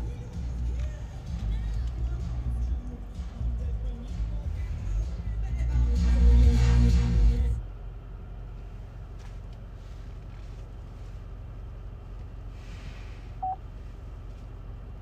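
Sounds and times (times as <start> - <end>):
low cabin hum: 0.0 - 15.0.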